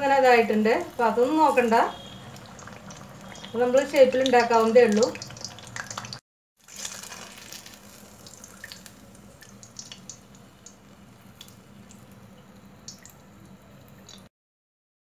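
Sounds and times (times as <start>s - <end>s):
deep-frying sizzle in oil: 0.0s - 14.3s.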